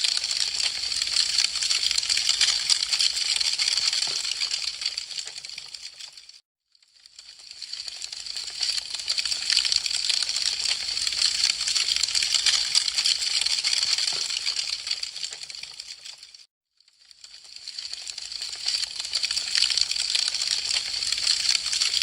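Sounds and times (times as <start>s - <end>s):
wood fire crackling: 0.0s - 6.4s, 7.2s - 16.4s, 17.2s - 22.0s.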